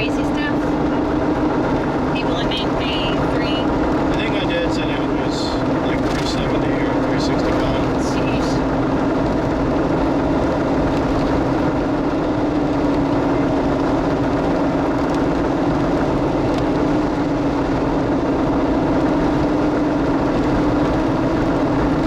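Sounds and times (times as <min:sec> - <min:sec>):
car engine and road noise: 0:00.0 - 0:22.0
constant low hum: 0:00.0 - 0:22.0.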